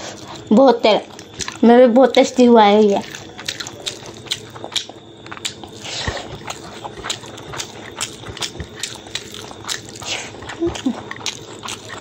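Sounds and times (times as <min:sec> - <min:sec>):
close chewing: 0:00.0 - 0:12.0.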